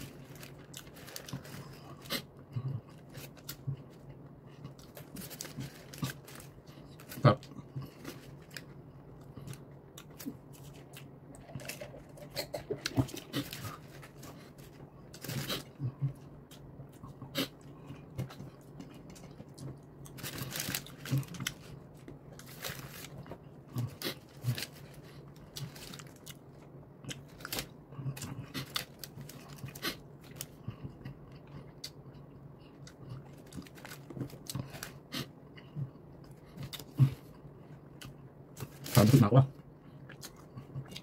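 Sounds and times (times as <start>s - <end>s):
person chewing crunchy food: 0.0s - 39.2s.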